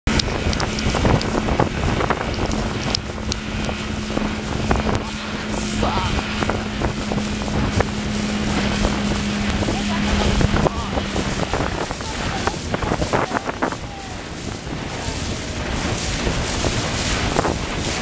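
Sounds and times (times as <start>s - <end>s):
speedboat engine hum: 0.0s - 18.0s
wind buffeting microphone: 0.1s - 18.0s.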